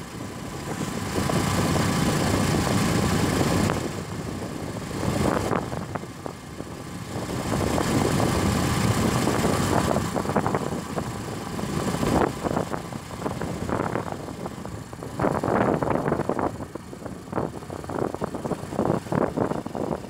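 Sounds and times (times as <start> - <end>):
motorcycle engine running: 0.0 - 20.0
wind buffeting microphone: 0.6 - 20.0.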